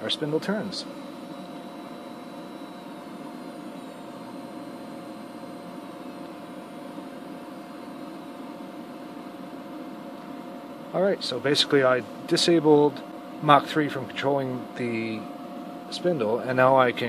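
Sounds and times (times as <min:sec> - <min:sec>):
router spindle humming with high whine: 0:00.0 - 0:17.0.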